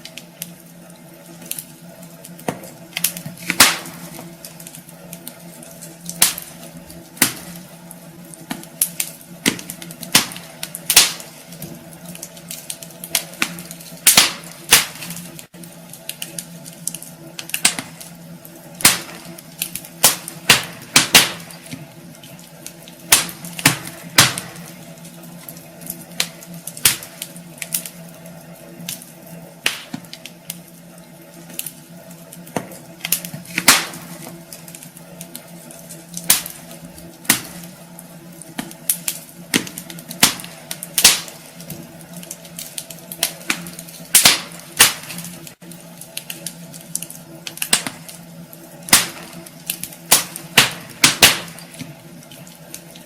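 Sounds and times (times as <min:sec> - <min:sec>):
steady low hum: 0:00.0 - 0:53.0
wood fire crackling: 0:00.0 - 0:53.0.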